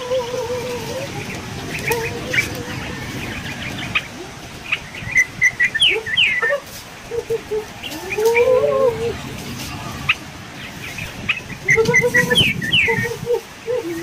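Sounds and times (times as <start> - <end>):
birds chirping: 0.6 - 14.0.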